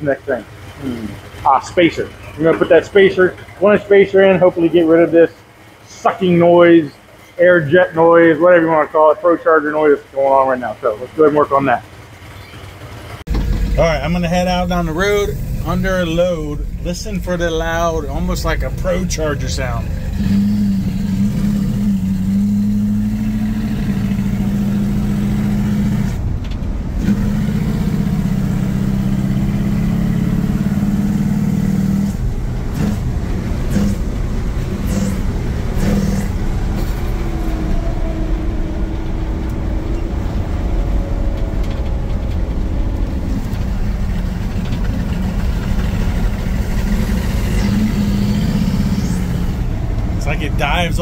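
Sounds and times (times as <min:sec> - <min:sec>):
truck engine accelerating: 0:00.0 - 0:51.0.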